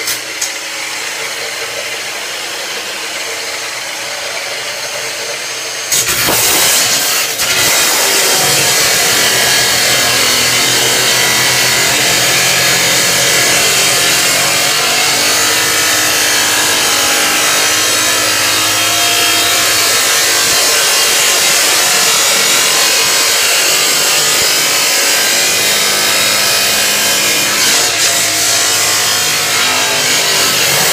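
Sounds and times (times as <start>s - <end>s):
power saw cutting: 0.0s - 30.9s.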